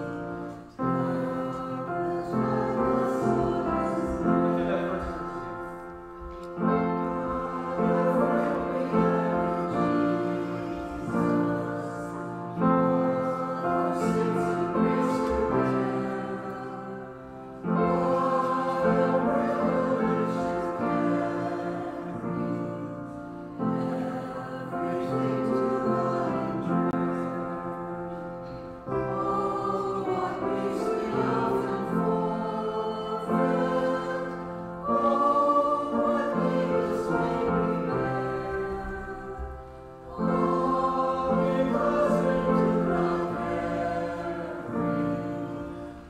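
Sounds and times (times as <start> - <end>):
choir singing: 0.0 - 46.0.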